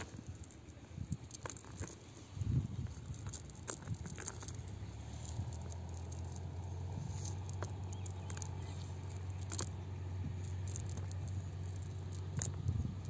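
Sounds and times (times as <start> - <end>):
net ticking and rustling: 0.0 - 13.0.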